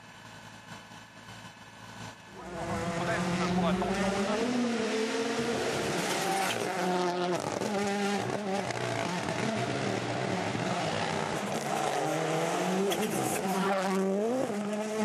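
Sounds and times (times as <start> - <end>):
rally car engine revving: 2.0 - 15.0.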